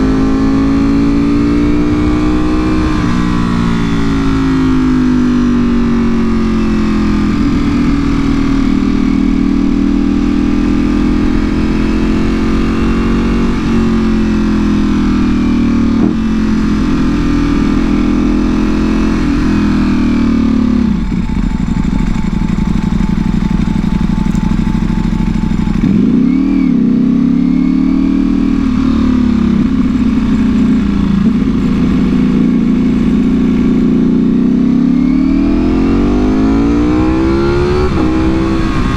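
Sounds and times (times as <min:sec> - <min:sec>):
motorcycle engine riding: 0:00.0 - 0:38.9.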